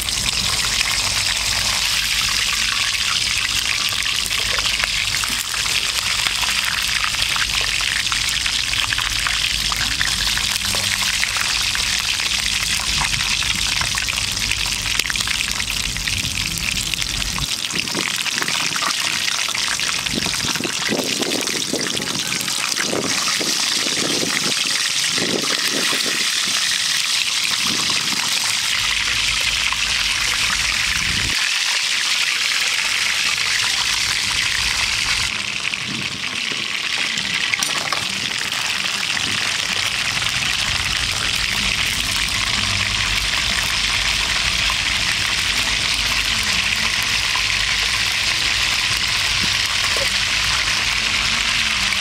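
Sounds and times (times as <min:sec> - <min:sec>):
hot oil sizzling: 0:00.0 - 0:52.0.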